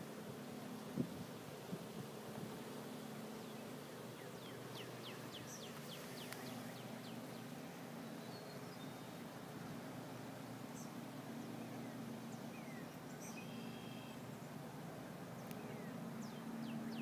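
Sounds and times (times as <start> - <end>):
faint hiss: 0.0 - 16.9.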